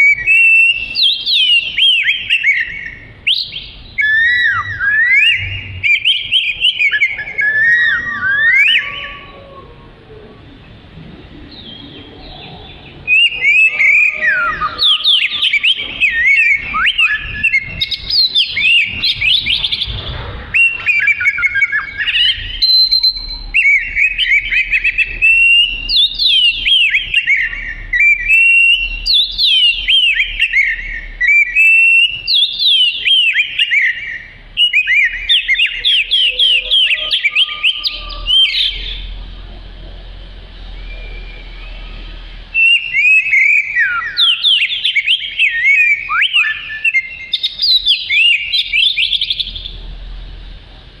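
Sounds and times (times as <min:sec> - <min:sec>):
songbird singing rapid phrases: 0:00.0 - 0:09.6, 0:10.3 - 0:50.2.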